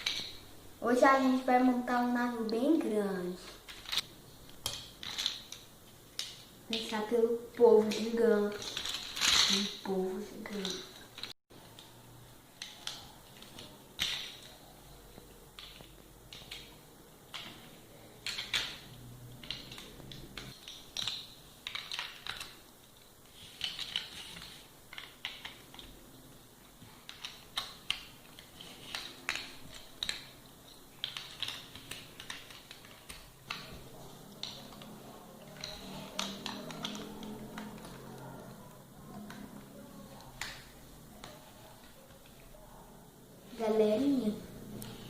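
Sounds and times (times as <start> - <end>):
plastic building blocks clicking: 0.0 - 0.4, 3.5 - 11.9, 12.5 - 42.5.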